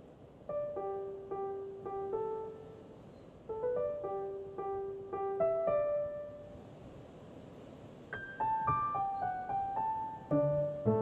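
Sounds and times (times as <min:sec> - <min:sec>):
slow piano melody: 0:00.0 - 0:07.1, 0:07.9 - 0:11.0.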